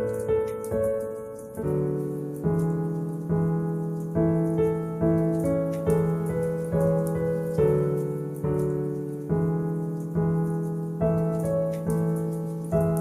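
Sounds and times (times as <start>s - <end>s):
slow solo piano: 0.0s - 13.0s
wood fire crackling: 0.0s - 13.0s.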